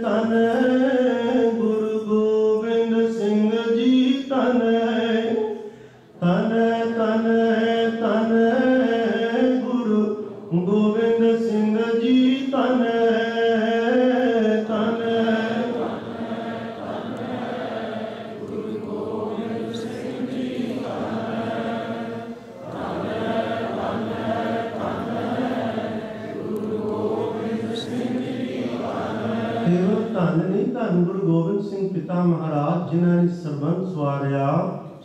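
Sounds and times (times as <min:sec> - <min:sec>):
congregation chanting in unison: 0:00.0 - 0:31.5.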